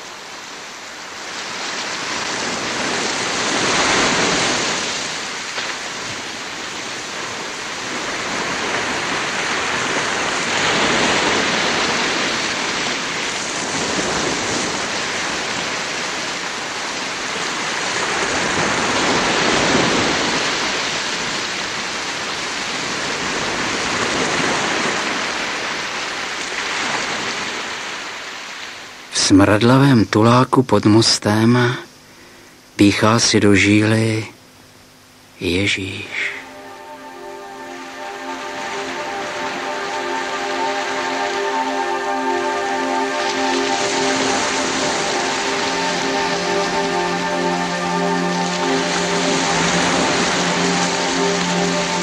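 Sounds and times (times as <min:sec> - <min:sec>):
rushing water: 0:00.0 - 0:29.4, 0:36.4 - 0:52.0.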